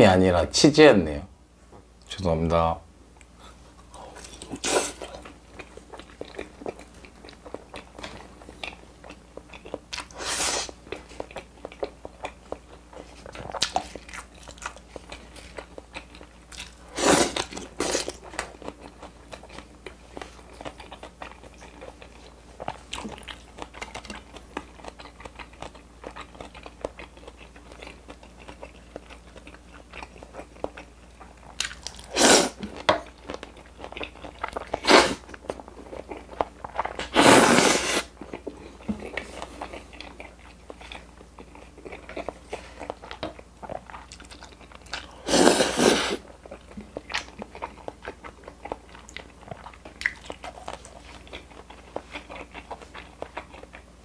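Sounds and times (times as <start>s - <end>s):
man chewing and biting food: 3.2s - 54.0s.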